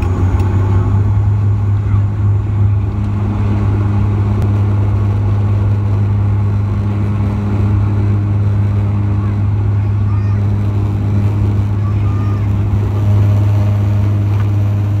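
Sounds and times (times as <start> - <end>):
faint higher hum: 0.0 - 15.0
turboprop engine drone: 0.0 - 15.0.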